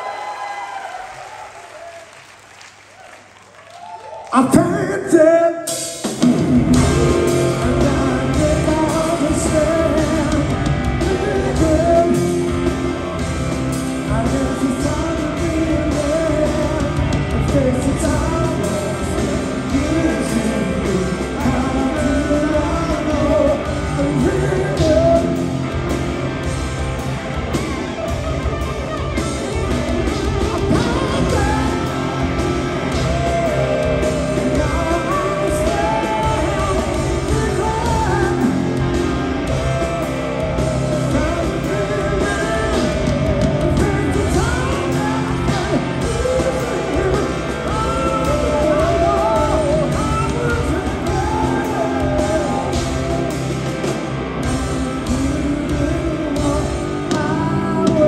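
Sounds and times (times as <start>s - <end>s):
rock band playing live: 4.4s - 58.0s
person singing: 6.7s - 26.1s, 29.2s - 58.0s.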